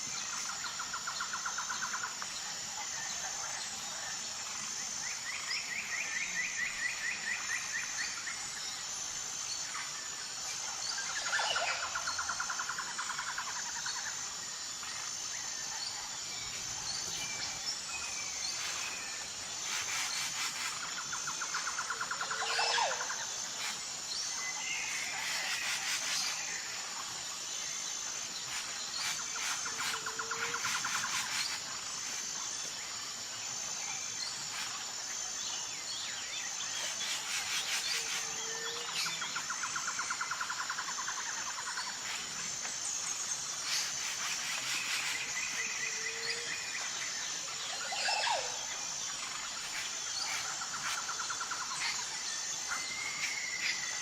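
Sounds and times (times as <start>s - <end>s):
high insect trill: 0.0s - 54.0s.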